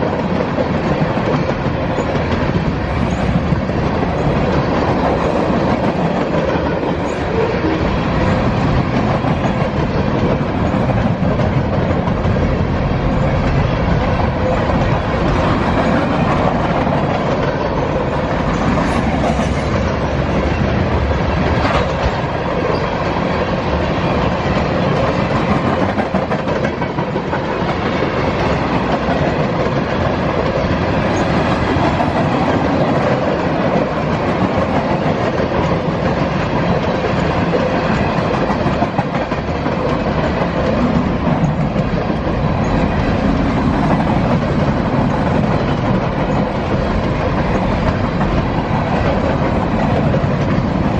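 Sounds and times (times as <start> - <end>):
freight train wheels clacking: 0.0 - 50.9.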